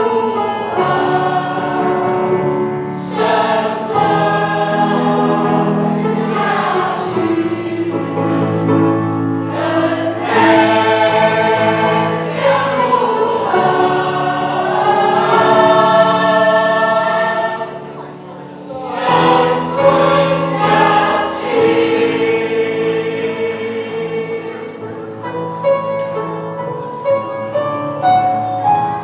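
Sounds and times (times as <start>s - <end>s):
choir singing slow song: 0.0s - 25.2s.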